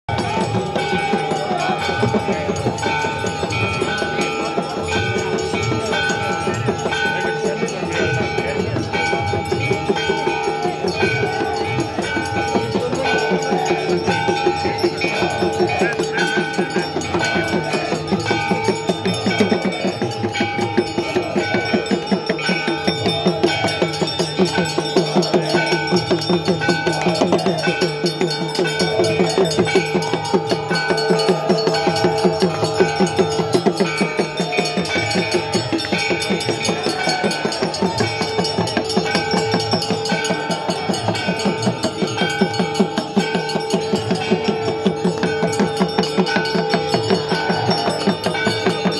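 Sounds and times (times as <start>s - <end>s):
bells ringing rapidly: 0.1s - 48.9s
drumming: 0.1s - 48.9s.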